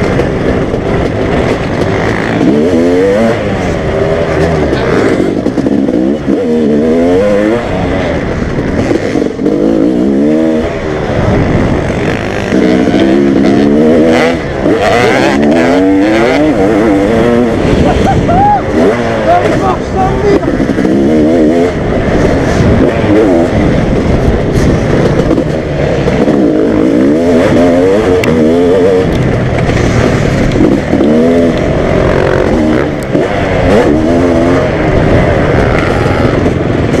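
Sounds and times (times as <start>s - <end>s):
motocross bike accelerating: 0.0s - 37.0s.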